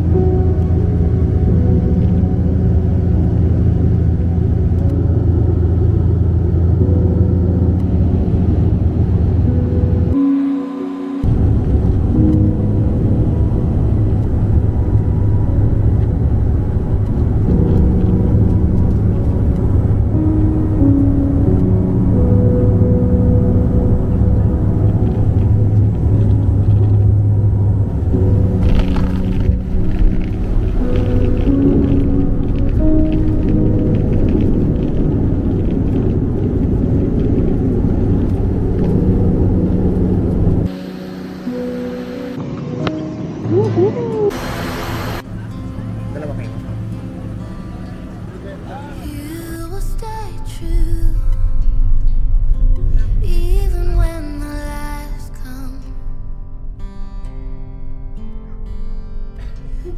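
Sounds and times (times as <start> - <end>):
vehicle engine rumble: 0.0 - 10.4, 11.1 - 54.9
soft music of held chords: 0.0 - 59.9.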